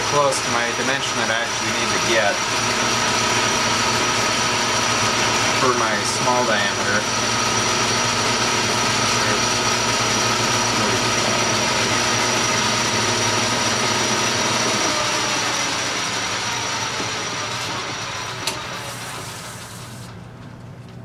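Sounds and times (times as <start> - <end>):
metal lathe running: 0.0 - 20.2.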